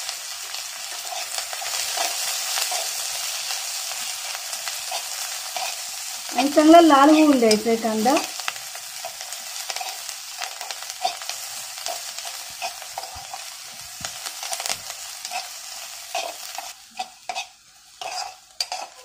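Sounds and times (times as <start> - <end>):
onions sizzling in oil: 0.0 - 19.0
spatula scraping pan: 0.9 - 19.0.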